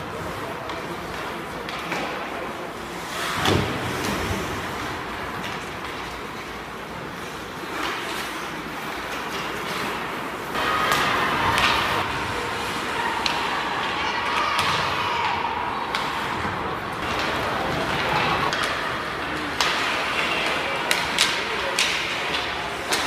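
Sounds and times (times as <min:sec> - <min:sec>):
hockey sticks clacking on puck: 0:00.0 - 0:23.0
skating and arena noise: 0:00.0 - 0:23.0.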